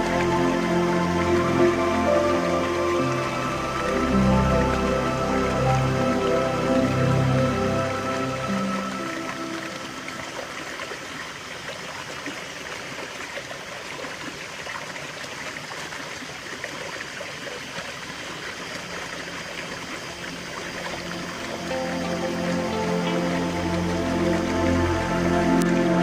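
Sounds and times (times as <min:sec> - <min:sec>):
stream water trickling: 0:00.0 - 0:26.0.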